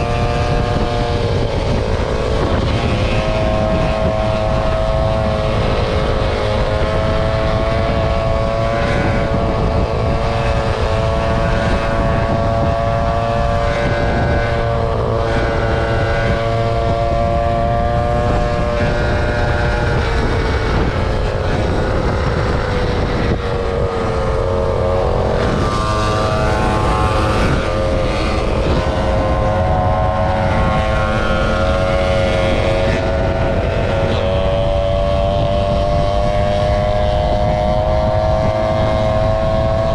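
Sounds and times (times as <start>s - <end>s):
motor scooter engine running: 0.0s - 39.9s.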